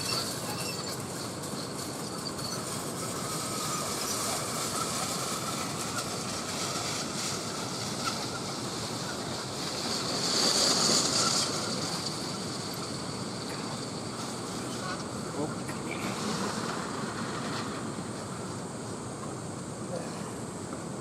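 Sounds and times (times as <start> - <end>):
roller slide rollers rattling: 0.0 - 19.4.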